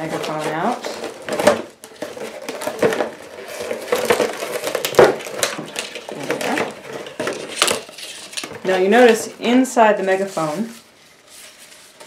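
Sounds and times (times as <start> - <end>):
cardboard and plastic packing crinkling: 0.0 - 12.0.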